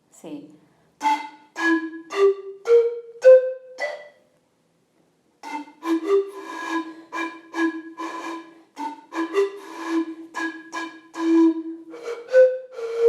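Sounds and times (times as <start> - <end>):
clay panpipe breathy notes: 0.7 - 4.2, 5.4 - 13.0.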